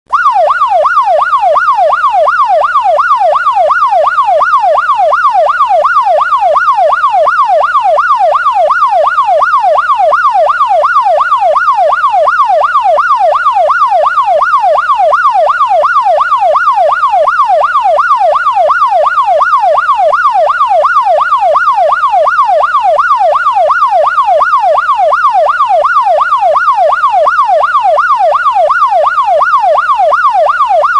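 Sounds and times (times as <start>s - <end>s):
police siren yelping: 0.1s - 30.9s.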